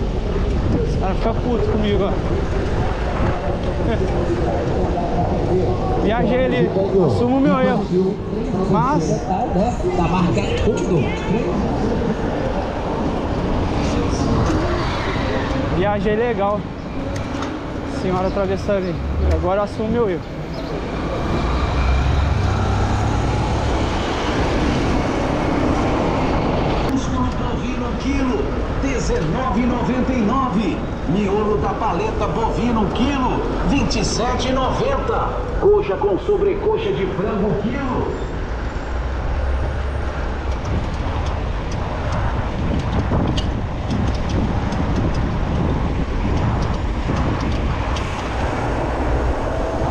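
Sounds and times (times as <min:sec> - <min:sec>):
wind rumbling on microphone: 0:00.0 - 0:36.4, 0:37.4 - 0:49.9
rushing road traffic noise: 0:00.0 - 0:49.9.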